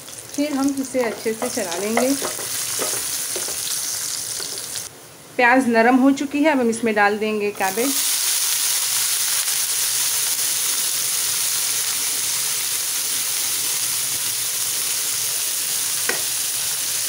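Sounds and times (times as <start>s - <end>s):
cabbage frying in hot oil: 0.0s - 4.9s, 7.6s - 17.0s.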